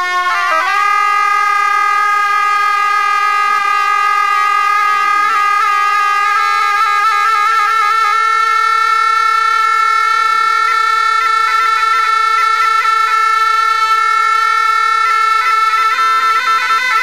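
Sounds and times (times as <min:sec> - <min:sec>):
double-reed shawms playing: 0:00.0 - 0:17.0.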